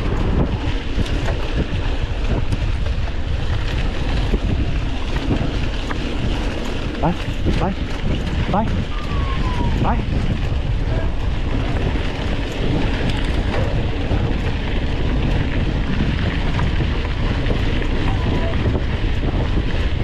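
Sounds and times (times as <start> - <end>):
mountain bike riding rumble: 0.0 - 20.0
wind buffeting microphone: 0.0 - 20.0.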